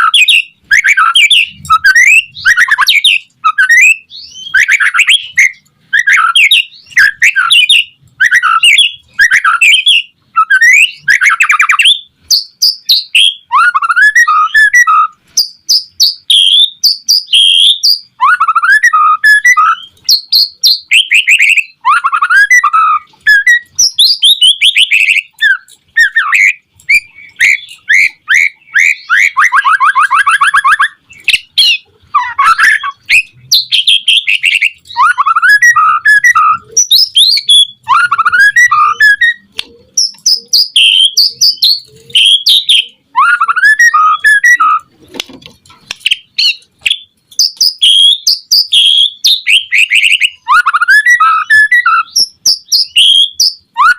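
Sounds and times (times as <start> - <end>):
songbird whistling and chirping: 0.0 - 44.9, 45.9 - 53.9.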